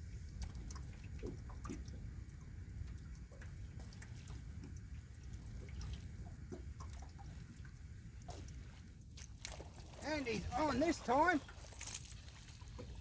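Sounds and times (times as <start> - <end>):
water dripping and splashing: 0.3 - 13.0.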